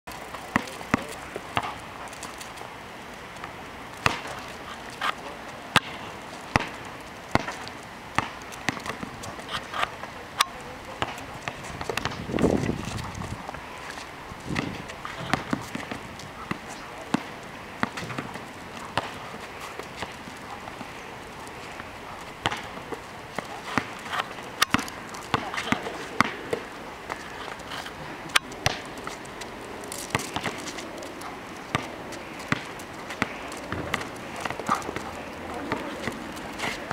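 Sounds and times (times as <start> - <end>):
basketball bouncing on asphalt: 0.1 - 36.9.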